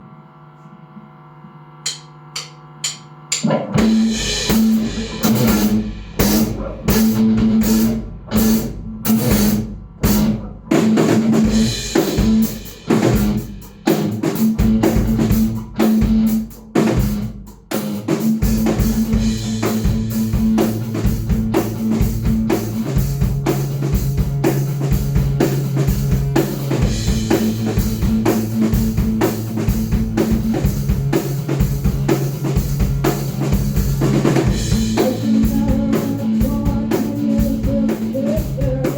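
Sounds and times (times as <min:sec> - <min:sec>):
metal band playing: 0:01.9 - 0:38.9.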